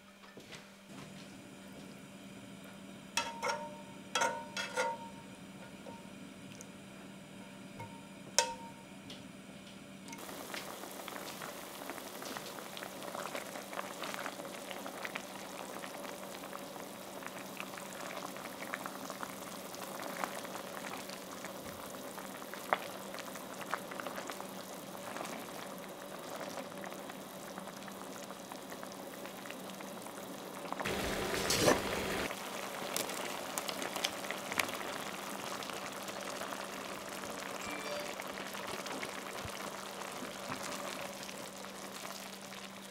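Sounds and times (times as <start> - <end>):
pasta boiling and bubbling: 0.9 - 42.9
clatter and sizzle: 2.6 - 6.7, 7.4 - 42.9.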